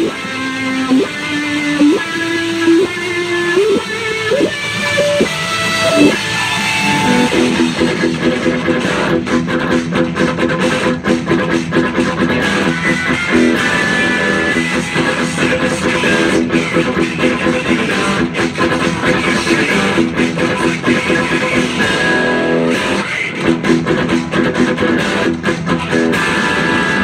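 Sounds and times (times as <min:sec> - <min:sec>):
electric guitar rock riff: 0:00.0 - 0:27.0.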